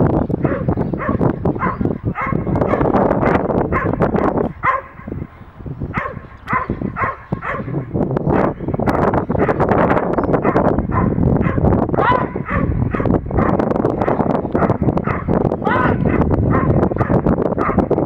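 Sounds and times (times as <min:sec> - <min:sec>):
wind rumble on microphone: 0:00.0 - 0:18.0
dog barking rapidly: 0:00.3 - 0:05.3, 0:05.9 - 0:18.0.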